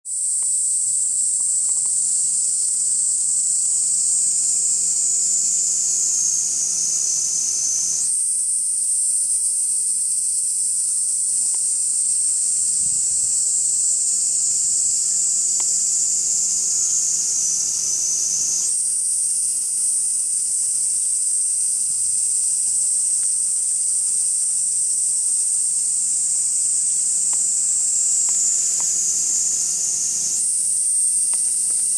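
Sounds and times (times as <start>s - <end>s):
cicada buzzing: 0.1s - 31.9s.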